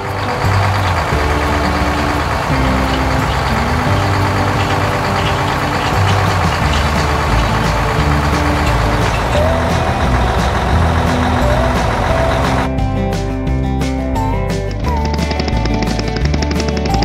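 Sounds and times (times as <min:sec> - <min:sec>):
background music with bass line: 0:00.0 - 0:17.0
combine harvester engine running: 0:00.0 - 0:17.0.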